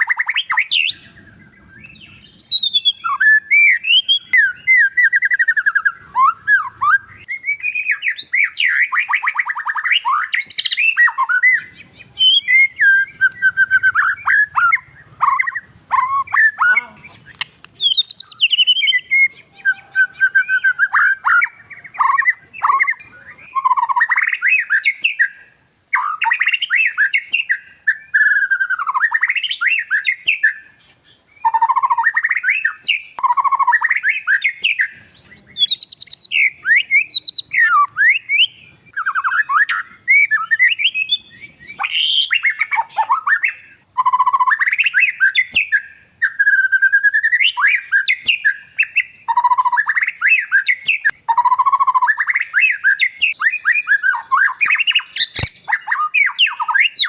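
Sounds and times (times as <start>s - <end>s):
songbird singing: 0.0s - 57.0s
steady high hiss: 0.0s - 57.0s.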